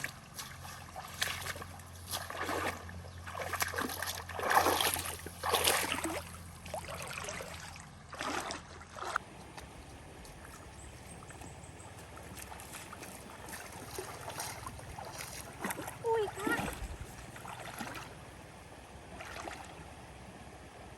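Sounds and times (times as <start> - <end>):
water trickling: 0.0 - 18.4
water splashing: 0.0 - 20.4.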